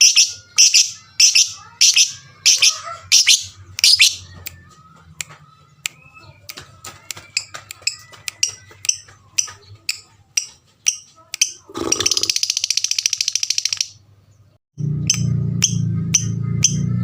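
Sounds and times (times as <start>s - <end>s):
lovebird chirping and trilling: 0.0s - 4.5s, 7.1s - 16.9s.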